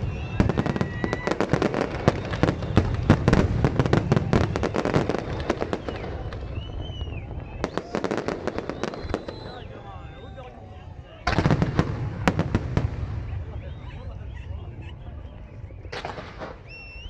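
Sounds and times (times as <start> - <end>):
fireworks crackling bangs: 0.0 - 10.5, 11.1 - 14.3, 15.8 - 17.0.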